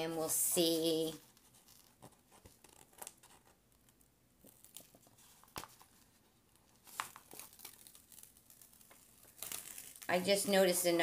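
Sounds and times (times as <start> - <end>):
plastic sheet crinkling: 0.6 - 11.0.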